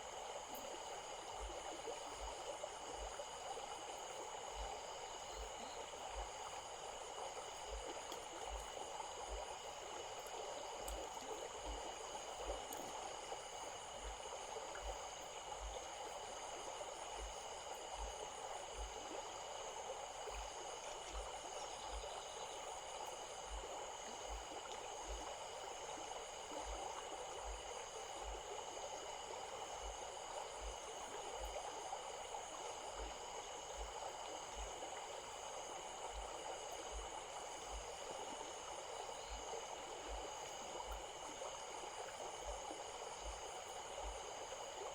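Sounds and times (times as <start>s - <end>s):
stream trickling: 0.0s - 44.9s.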